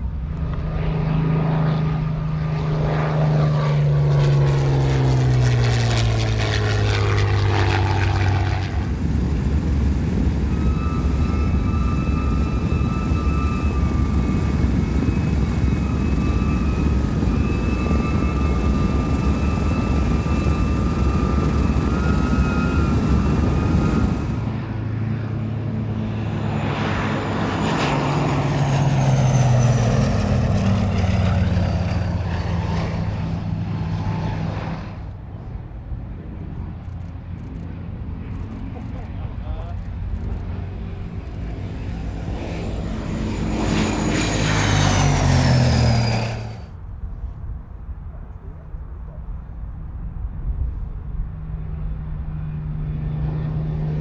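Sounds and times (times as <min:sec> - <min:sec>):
propeller aircraft flying past: 0:00.0 - 0:54.0.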